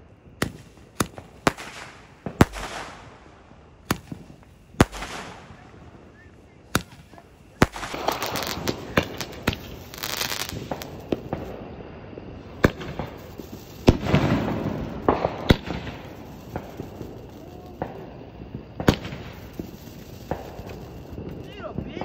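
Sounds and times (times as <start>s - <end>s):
fireworks banging: 0.0s - 22.0s
fireworks crackling: 0.0s - 22.0s
hissing firework burst: 0.0s - 22.0s.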